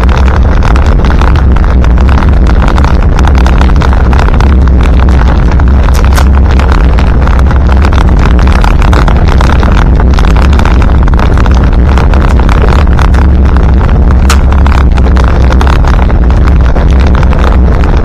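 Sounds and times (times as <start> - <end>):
diesel engine droning in cab: 0.0 - 18.0.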